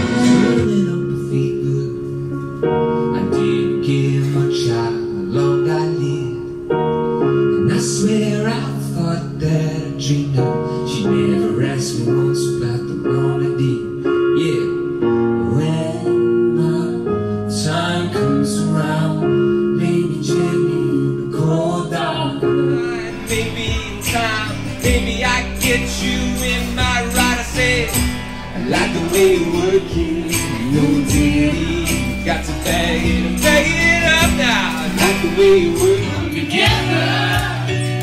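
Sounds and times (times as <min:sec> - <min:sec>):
man singing: 0:00.0 - 0:02.4, 0:03.0 - 0:06.6, 0:07.5 - 0:38.0
piano chords: 0:00.0 - 0:38.0.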